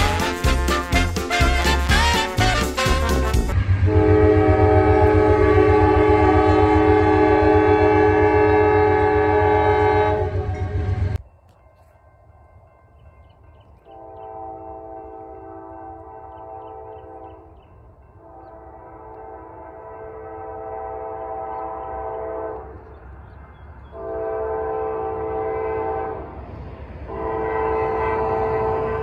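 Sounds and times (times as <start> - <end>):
train air horn blasts: 0.0 - 11.2, 13.8 - 17.5, 18.2 - 22.9, 23.9 - 26.4, 27.1 - 29.0
low train rumble: 0.0 - 29.0.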